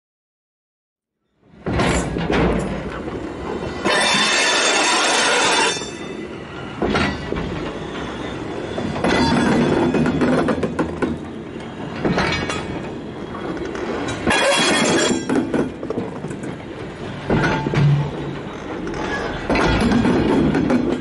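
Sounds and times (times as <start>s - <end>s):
freight wagons rolling rumble: 1.4s - 21.0s
train wheels clattering over rail joint: 1.4s - 21.0s.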